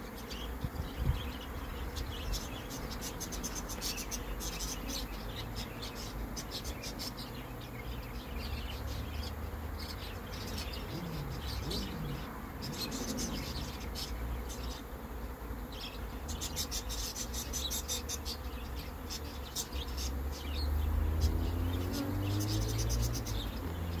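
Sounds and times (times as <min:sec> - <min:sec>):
bees buzzing: 0:00.0 - 0:24.0
single bee flying past: 0:00.0 - 0:24.0.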